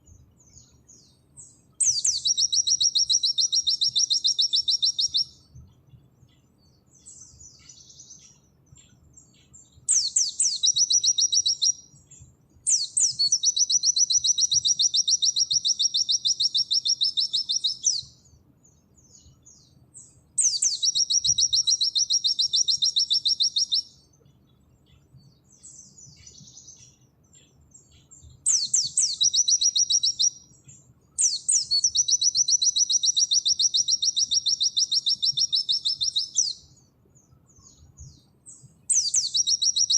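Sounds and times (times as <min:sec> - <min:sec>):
bird singing fast trills: 0:00.0 - 0:39.9
soft bird twittering: 0:00.0 - 0:39.9.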